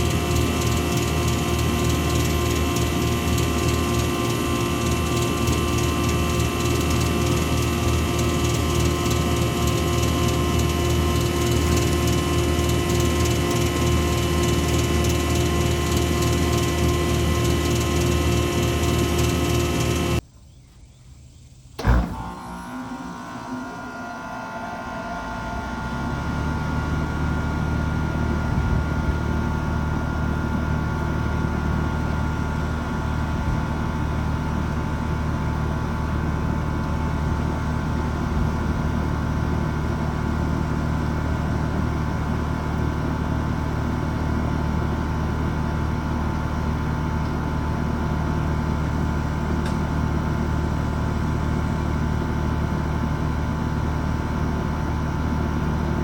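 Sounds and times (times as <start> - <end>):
hvac low mechanical hum: 0.0 - 56.0.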